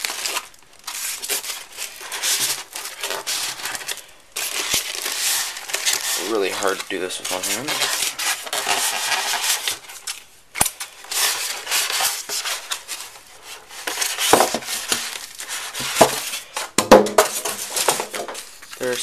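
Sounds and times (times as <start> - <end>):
plastic bag and foam rustling: 0.0 - 19.0.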